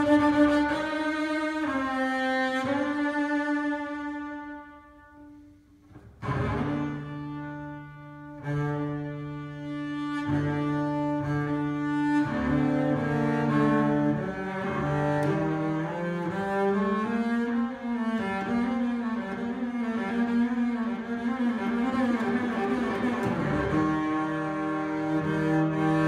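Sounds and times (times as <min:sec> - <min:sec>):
bowed double bass: 0:00.0 - 0:26.0.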